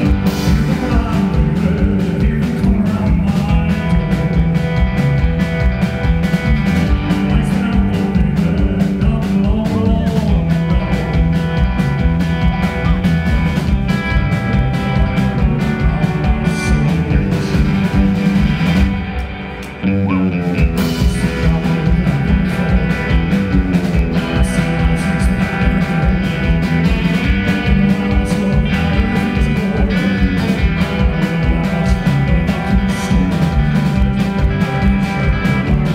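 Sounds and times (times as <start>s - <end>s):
live band playing country-rock: 0.0s - 35.9s.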